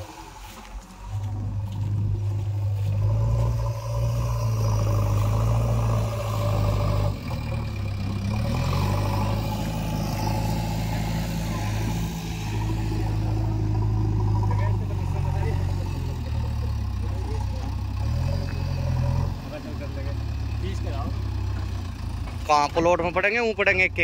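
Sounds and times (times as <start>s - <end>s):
diesel engine revving: 0.0s - 24.0s
diesel engine running steadily: 0.0s - 24.0s.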